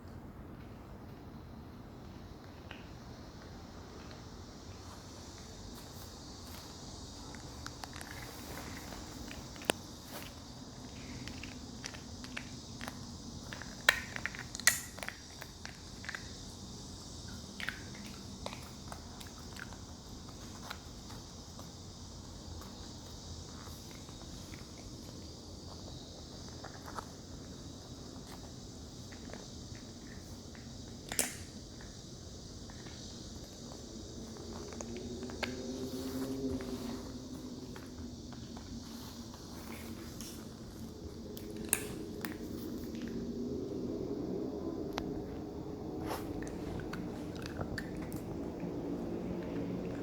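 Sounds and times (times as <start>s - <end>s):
steady high hiss: 0.0s - 50.0s.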